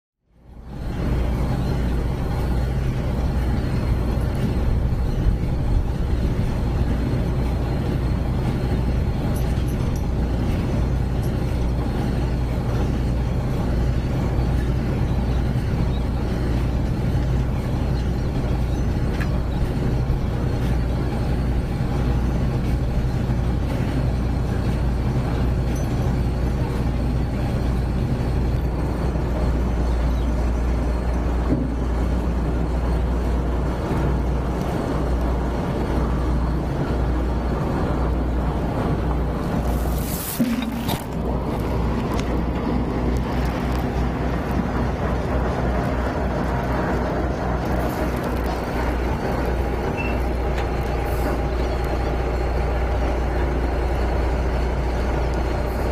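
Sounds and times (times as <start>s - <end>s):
diesel crane engine droning: 0.2s - 55.9s.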